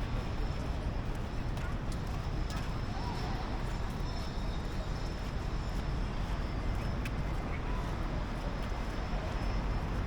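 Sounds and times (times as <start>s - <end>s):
faint voices of passers-by: 0.5s - 10.0s.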